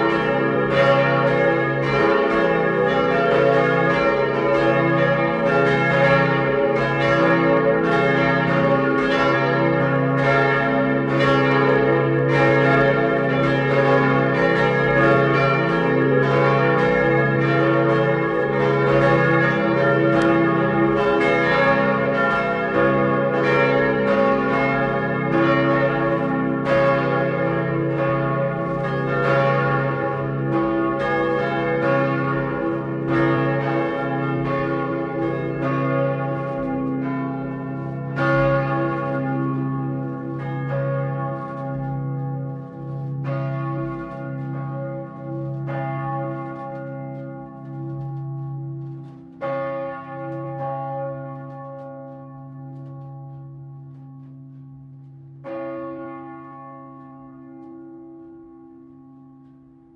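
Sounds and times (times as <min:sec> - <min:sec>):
synthesized church bells ringing: 0:00.0 - 0:59.9.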